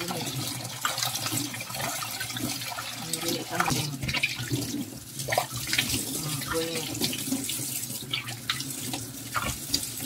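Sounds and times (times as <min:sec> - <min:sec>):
faucet water running into steel sink: 0:00.0 - 0:10.0
water splashing: 0:00.0 - 0:10.0.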